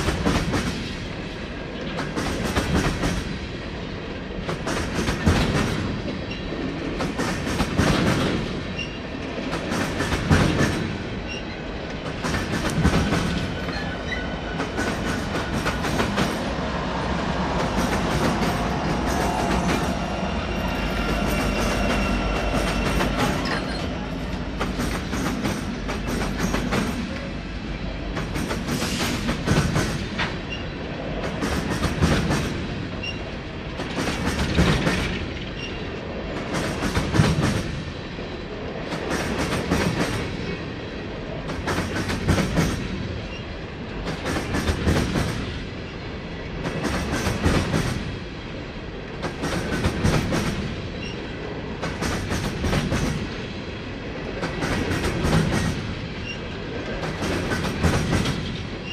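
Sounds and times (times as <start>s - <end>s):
clacks of passing train cars: 0.0s - 58.9s.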